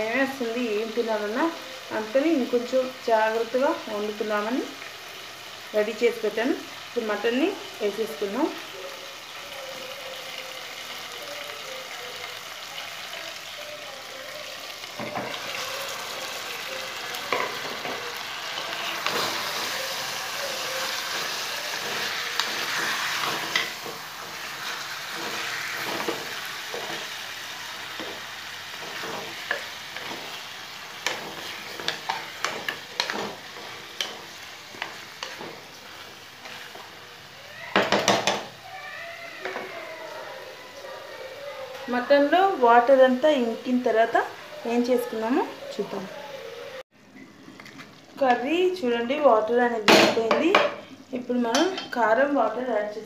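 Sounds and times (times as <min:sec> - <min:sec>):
meat sizzling in hot oil: 0:00.0 - 0:53.0.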